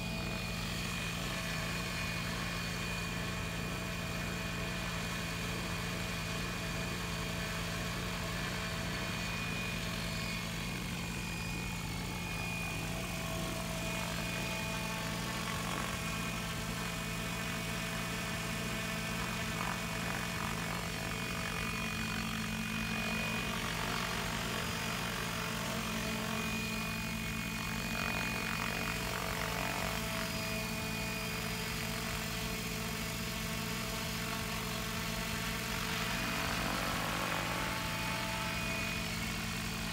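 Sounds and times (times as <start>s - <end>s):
model helicopter rotors whining: 0.0s - 39.9s.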